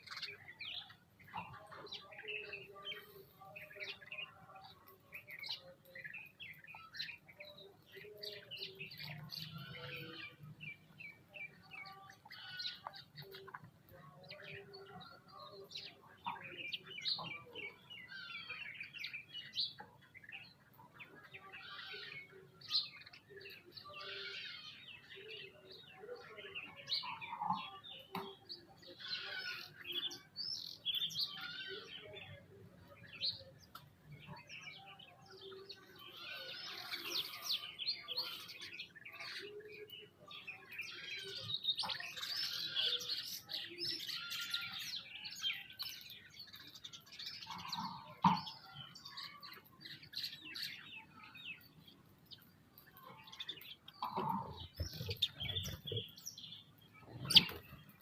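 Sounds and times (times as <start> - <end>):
many birds chirping: 0.0 - 58.0.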